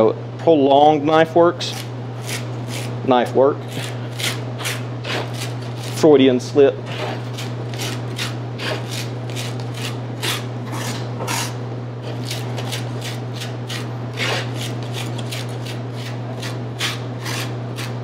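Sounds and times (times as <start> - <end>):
steady low hum: 0.0 - 18.0
knife scraping on cutting board: 1.6 - 3.0, 3.6 - 6.1, 6.8 - 18.0.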